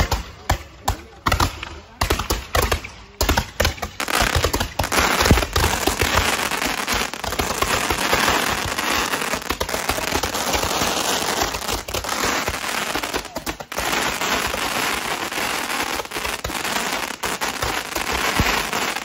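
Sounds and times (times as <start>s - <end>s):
firework bangs: 0.0s - 19.0s
firework crackle and pops: 0.0s - 19.0s.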